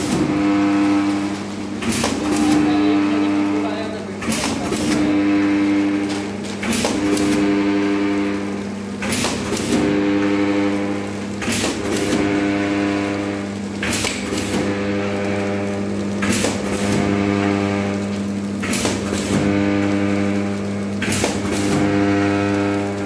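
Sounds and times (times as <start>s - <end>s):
electrical hum: 0.0s - 23.0s
machine motor tone: 0.0s - 23.0s.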